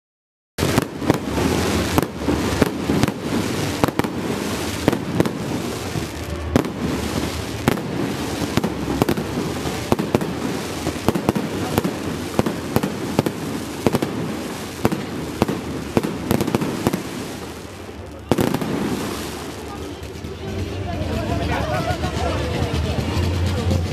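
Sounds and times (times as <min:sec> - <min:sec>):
fireworks bangs: 0:00.6 - 0:20.6.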